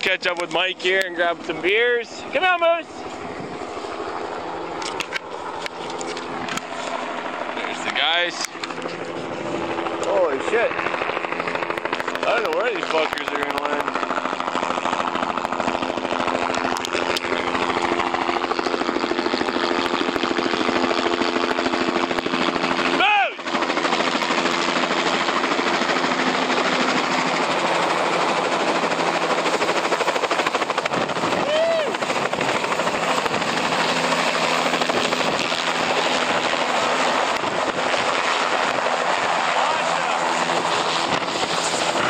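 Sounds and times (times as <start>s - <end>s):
helicopter engine drone: 0.0s - 42.0s
helicopter rotor blades chopping: 0.0s - 42.0s.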